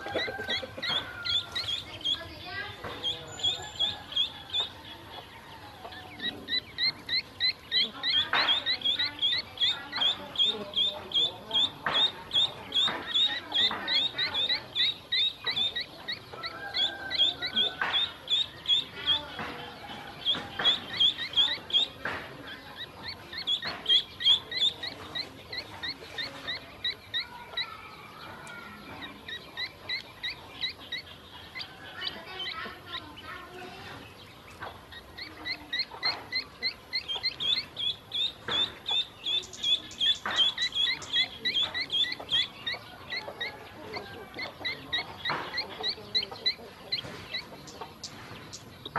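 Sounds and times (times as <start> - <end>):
ducklings peeping: 0.0 - 48.9.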